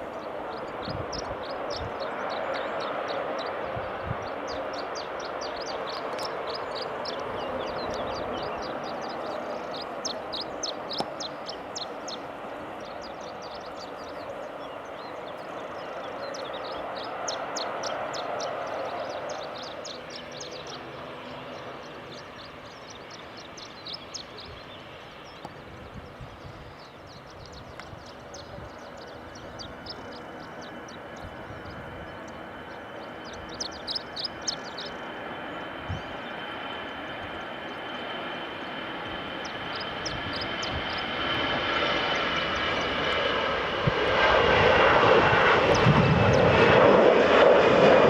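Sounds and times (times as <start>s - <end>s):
aircraft engine noise: 0.0s - 48.0s
small birds chirping: 0.0s - 48.0s.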